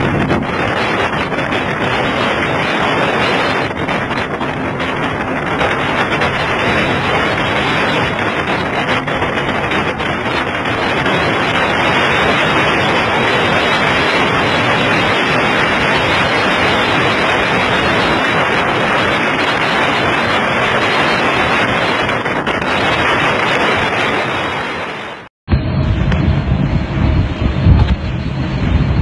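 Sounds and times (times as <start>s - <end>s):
water rushing past boat: 0.0s - 25.3s
wind blasting microphone: 0.0s - 29.0s.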